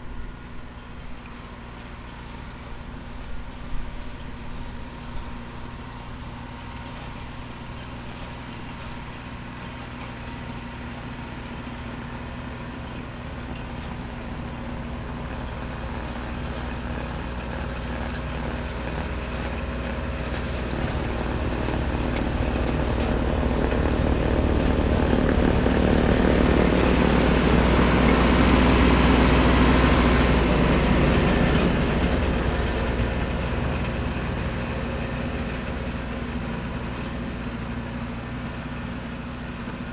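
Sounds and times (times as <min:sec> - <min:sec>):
tractor engine running snowblower: 0:00.0 - 0:39.9.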